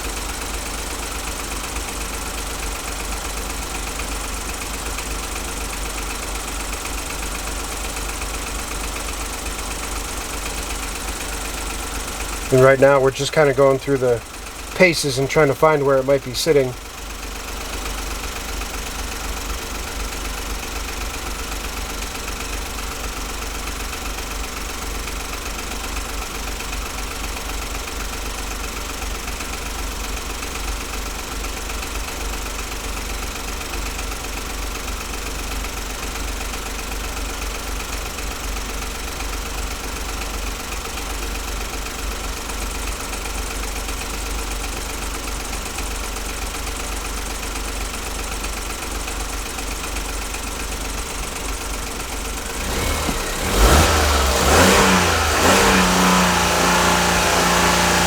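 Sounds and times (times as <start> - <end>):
car engine idling with misfire: 0.0 - 58.0.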